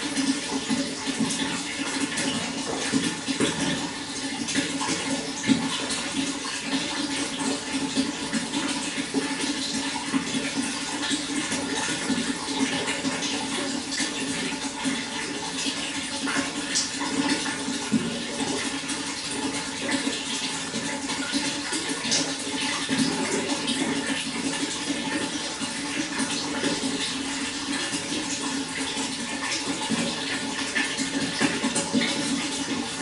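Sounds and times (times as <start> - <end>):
running water splashing: 0.0 - 33.0.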